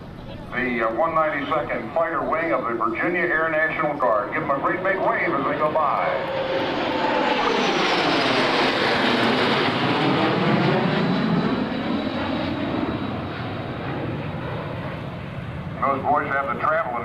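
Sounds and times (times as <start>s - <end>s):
jet aircraft roar flying past: 0.0s - 17.0s.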